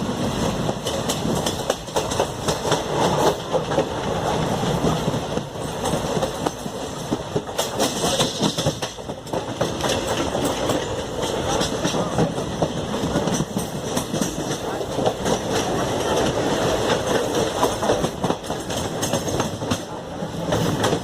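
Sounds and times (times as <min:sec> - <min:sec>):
train wheels clattering on rails: 0:00.0 - 0:21.0.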